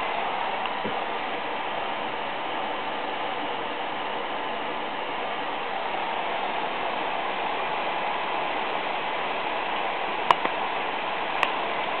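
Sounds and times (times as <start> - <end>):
computer fans rushing: 0.0 - 12.0.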